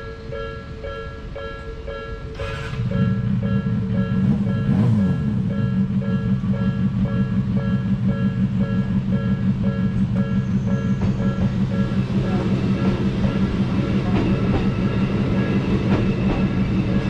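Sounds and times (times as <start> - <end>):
electric train rumble and clatter: 0.0 - 17.0
level crossing warning bell: 0.0 - 17.0.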